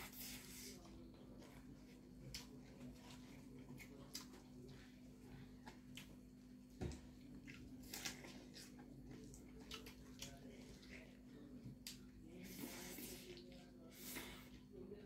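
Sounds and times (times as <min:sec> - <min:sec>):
people chewing: 0:00.0 - 0:14.7.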